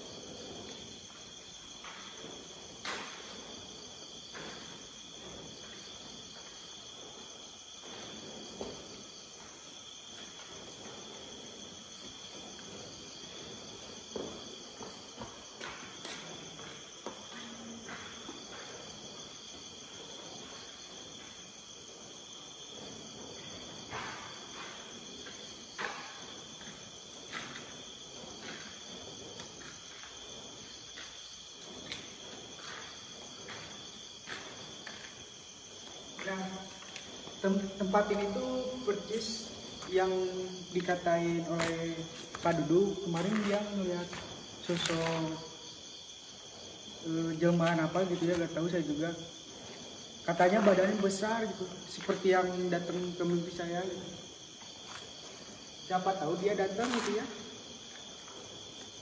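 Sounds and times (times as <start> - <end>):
crickets and insects trilling: 0.0 - 59.0.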